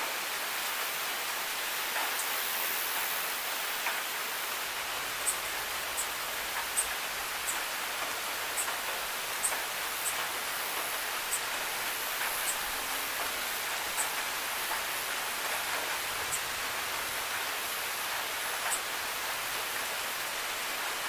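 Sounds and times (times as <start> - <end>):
steady rain hiss: 0.0 - 21.0
raindrops ticking: 3.8 - 21.0.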